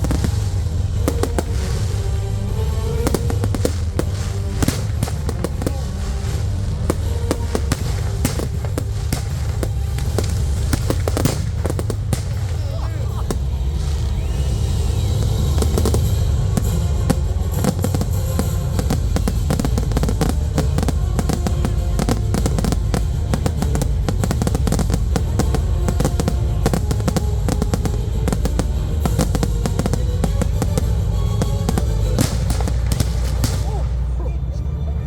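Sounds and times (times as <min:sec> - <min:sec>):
firework bangs and crackles: 0:00.0 - 0:34.2
loud music: 0:00.0 - 0:34.2.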